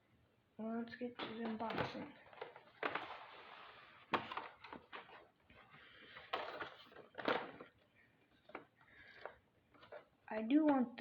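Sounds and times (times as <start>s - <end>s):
packaging rustling: 1.2s - 10.1s.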